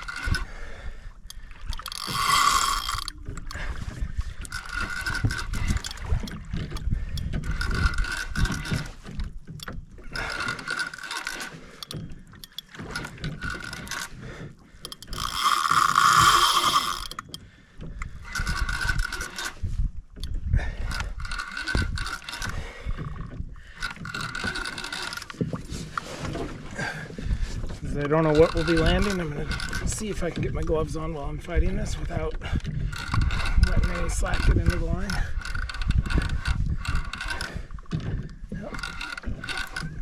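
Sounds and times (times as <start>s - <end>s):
fishing reel whirring: 0.0s - 17.4s, 18.2s - 26.0s, 28.0s - 30.8s, 32.4s - 40.0s.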